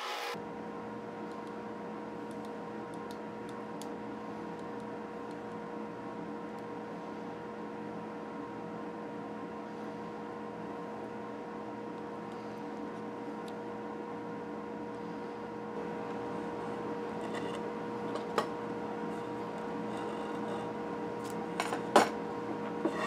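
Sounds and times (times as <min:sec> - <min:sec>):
workshop hum: 0:00.0 - 0:23.0.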